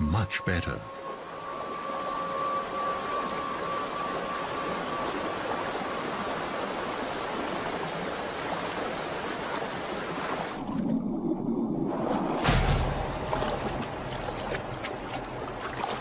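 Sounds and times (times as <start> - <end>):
rushing stream water: 0.0 - 10.8, 11.9 - 16.0.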